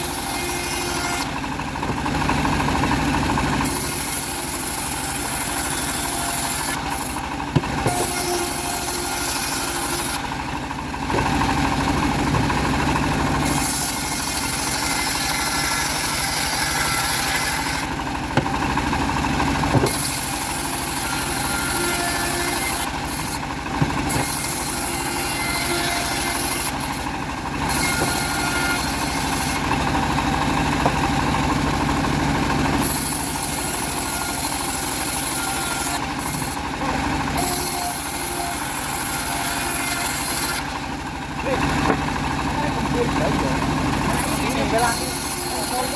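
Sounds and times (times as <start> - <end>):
bandsaw mill sawing log: 0.0 - 45.9.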